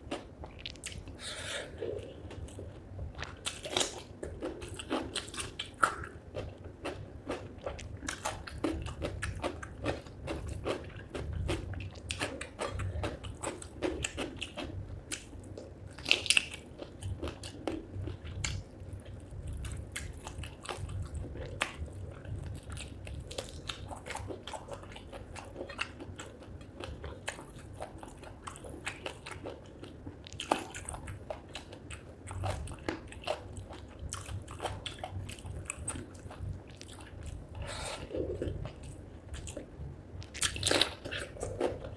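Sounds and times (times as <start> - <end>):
wet chewing with crunches: 0.0 - 41.9.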